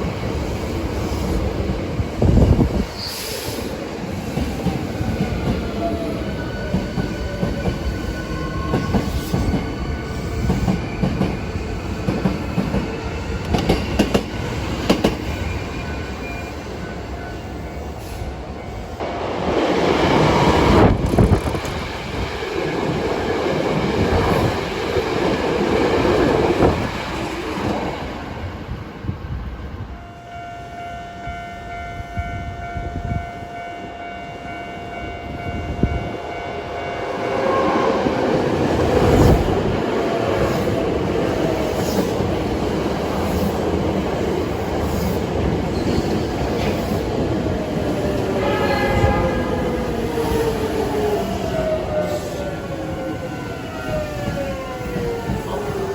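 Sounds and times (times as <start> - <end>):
electric train rumbling past: 0.0 - 55.9.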